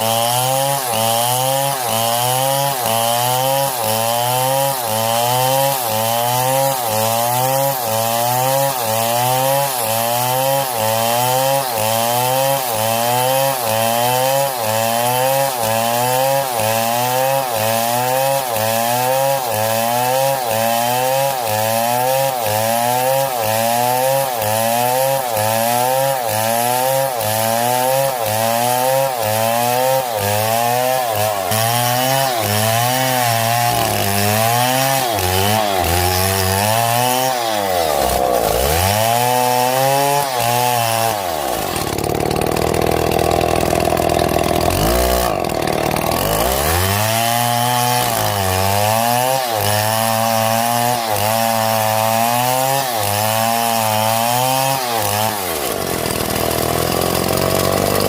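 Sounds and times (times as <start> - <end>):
wood-cutting machine engine: 0.0 - 58.0.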